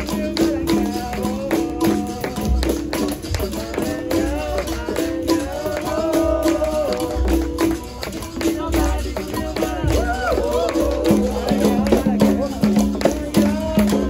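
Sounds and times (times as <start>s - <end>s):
deep drum beats: 0.0s - 14.0s
pandeiro jingles: 0.0s - 14.0s
person singing: 0.0s - 14.0s.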